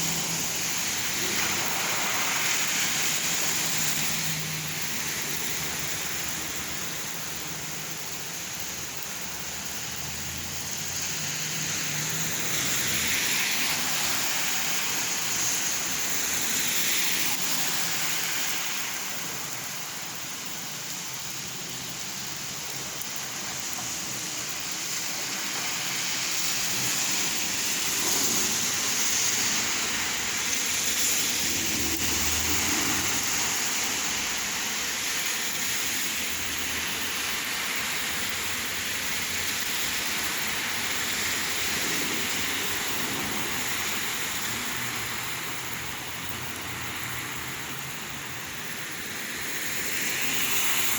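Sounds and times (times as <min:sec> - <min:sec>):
steady rain splashing: 0:00.0 - 0:50.9.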